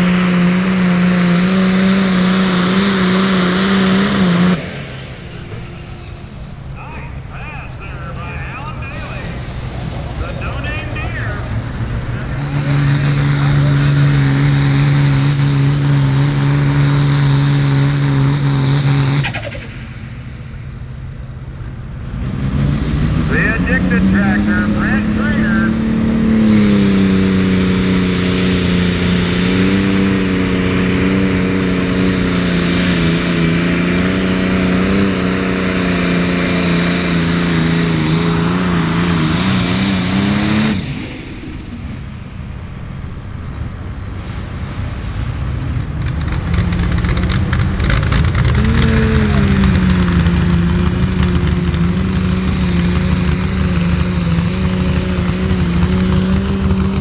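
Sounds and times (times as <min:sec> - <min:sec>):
tractor engine rising in pitch: 0:00.0 - 0:57.0
tractor engine under load: 0:00.0 - 0:57.0.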